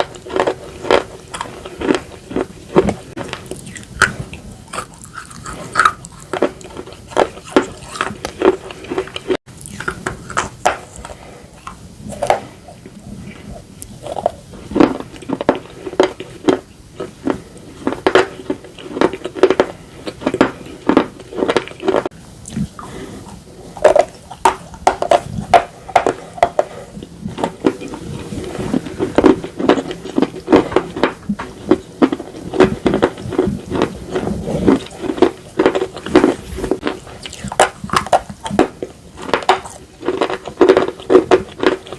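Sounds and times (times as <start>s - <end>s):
chewing dry crunches: 0.0s - 41.9s.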